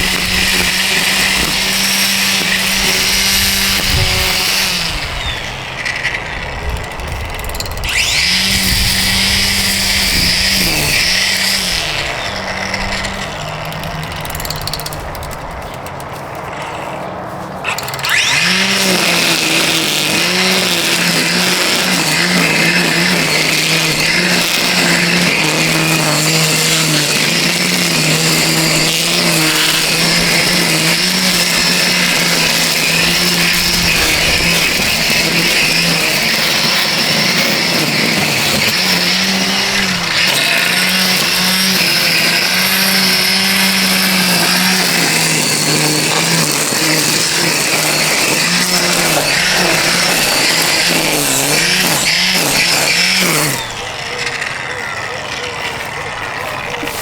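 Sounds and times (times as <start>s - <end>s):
string trimmer motor whine: 0.0s - 57.0s
trimmer click: 0.0s - 57.0s
trimmer line hissing: 0.0s - 57.0s.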